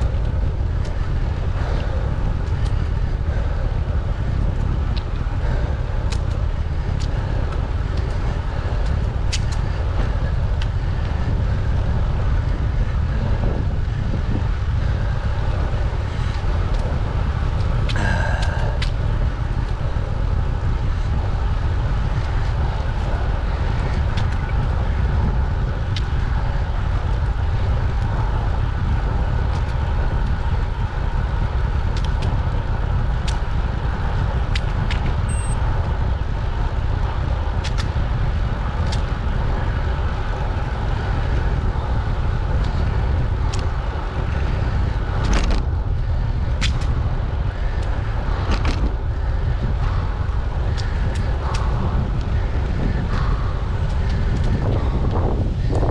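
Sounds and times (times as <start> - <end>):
bicycle tyre and road noise: 0.0 - 55.9
wind buffeting microphone: 0.0 - 55.9.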